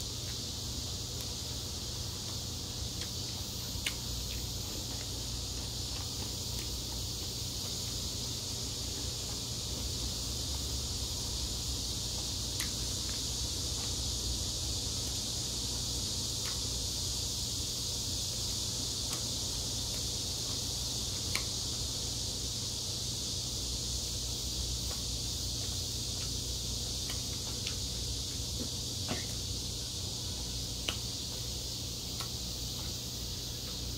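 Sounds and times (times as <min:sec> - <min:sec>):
steady high hiss: 0:00.0 - 0:33.9.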